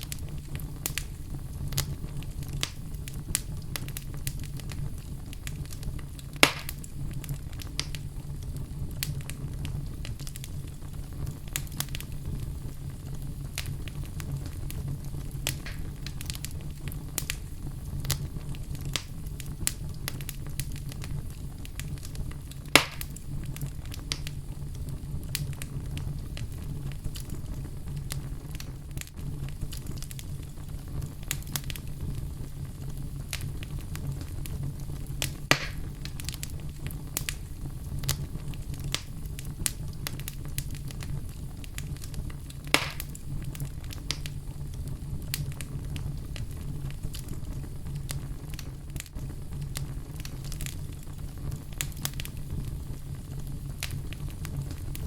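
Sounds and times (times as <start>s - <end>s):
loud fire pops: 0.0s - 55.0s
low fire rumble: 0.0s - 55.0s
wood fire crackling: 0.0s - 55.0s.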